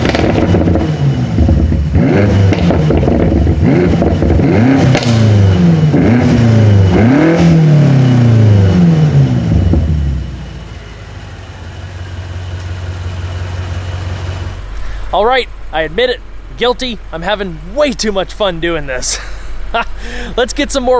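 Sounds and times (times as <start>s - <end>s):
sharp exhaust crack: 0.0s - 10.8s, 14.2s - 20.9s
car engine revving and idling: 0.0s - 20.9s.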